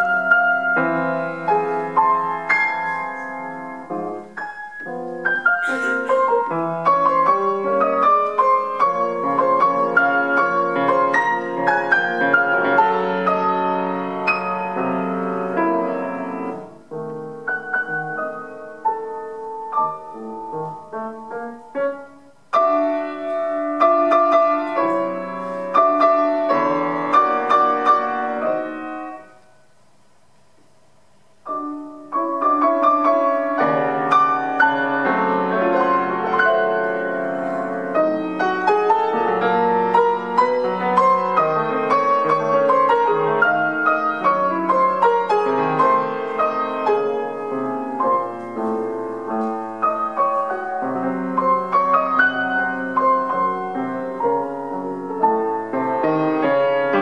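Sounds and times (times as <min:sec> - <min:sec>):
prepared piano playing chords: 0:00.0 - 0:57.0.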